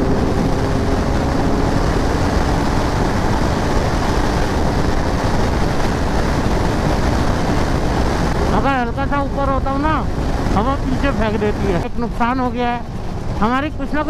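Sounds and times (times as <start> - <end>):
heavy wind rush on microphone: 0.0 - 14.0
motorcycle engine drone: 0.0 - 14.0.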